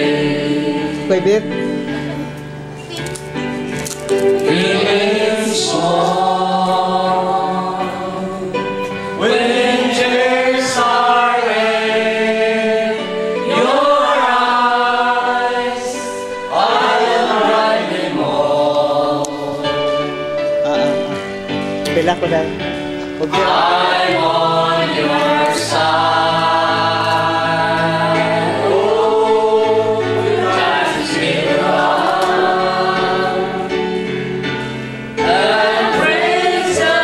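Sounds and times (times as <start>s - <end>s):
group singing together: 0.0s - 2.3s, 4.2s - 20.6s, 23.0s - 37.0s.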